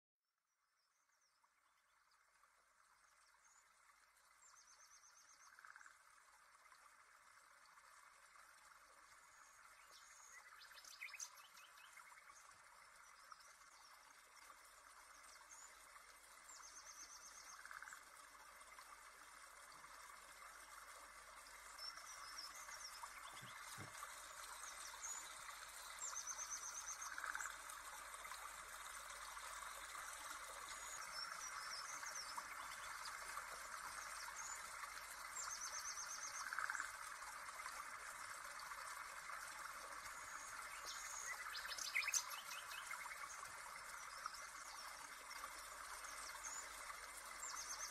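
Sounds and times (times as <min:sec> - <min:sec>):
faint birdsong chirps and trills: 0:00.4 - 0:47.9
flowing water hiss: 0:02.4 - 0:47.9.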